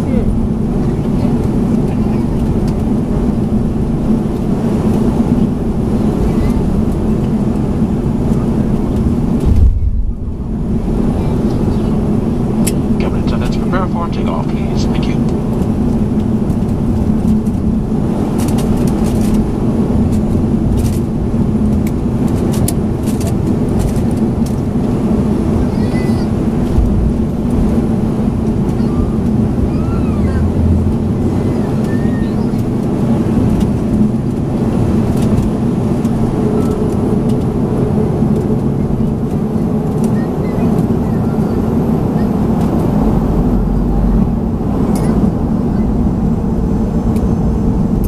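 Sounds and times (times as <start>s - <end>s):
jet engines droning: 0.0s - 48.0s.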